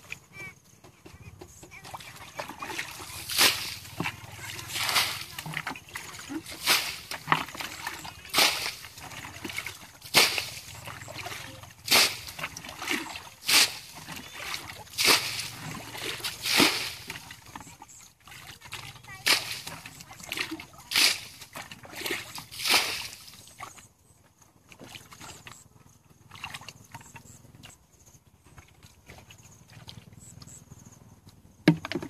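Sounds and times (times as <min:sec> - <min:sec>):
muddy water splashing: 0:00.0 - 0:32.0.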